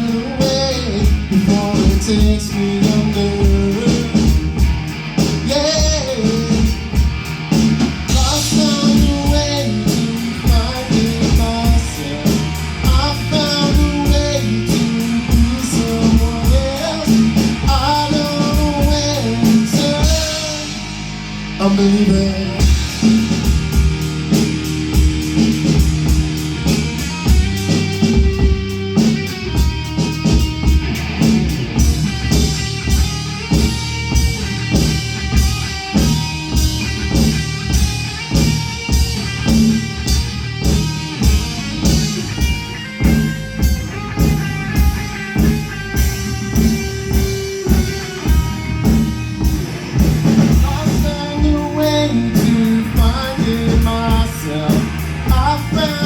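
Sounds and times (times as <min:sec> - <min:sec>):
bass: 0:00.0 - 0:56.0
drum kit beat: 0:00.0 - 0:56.0
electric guitar: 0:00.0 - 0:56.0.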